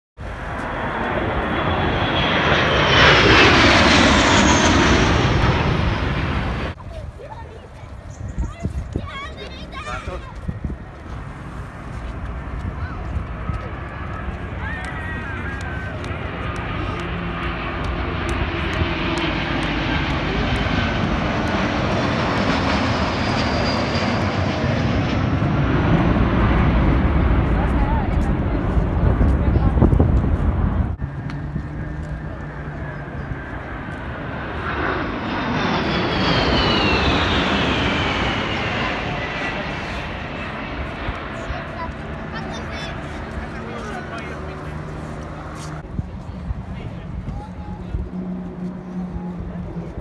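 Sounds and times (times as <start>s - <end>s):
jet airliner flying overhead: 0.2s - 50.0s.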